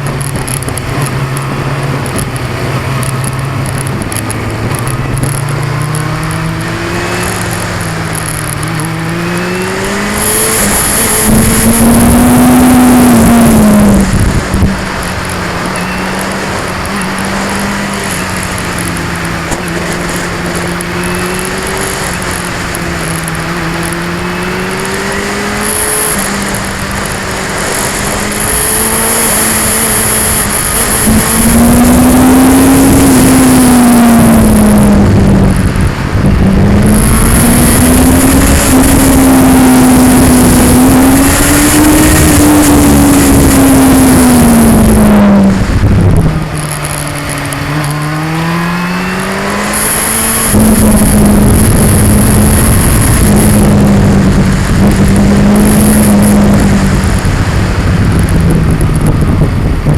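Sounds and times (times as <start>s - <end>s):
camera vibration noise: 0.0s - 59.9s
motorcycle engine revving: 0.0s - 59.9s
wind rush: 0.0s - 59.9s.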